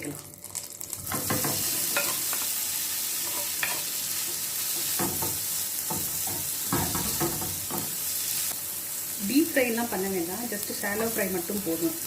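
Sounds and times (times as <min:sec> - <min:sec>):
cheese sizzling in butter: 0:00.0 - 0:12.0.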